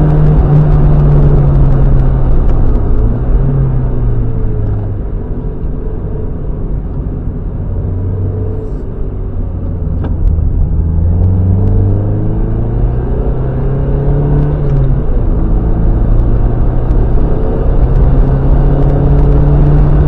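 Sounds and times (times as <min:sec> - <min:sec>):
car engine on track: 0:00.0 - 0:20.0
low rumble: 0:00.0 - 0:20.0.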